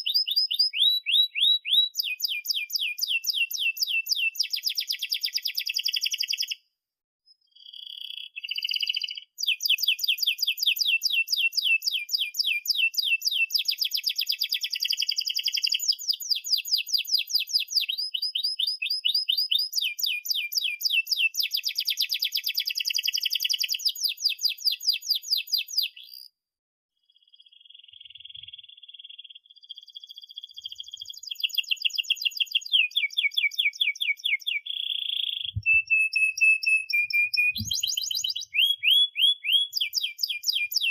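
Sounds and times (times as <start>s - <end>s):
canary singing trills: 0.0s - 6.6s, 7.3s - 26.3s, 27.1s - 40.9s.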